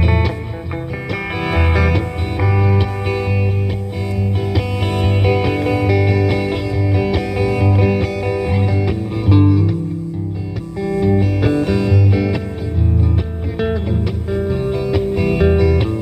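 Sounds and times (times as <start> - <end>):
low bass line: 0.0 - 16.0
plucked and strummed guitar: 0.0 - 16.0.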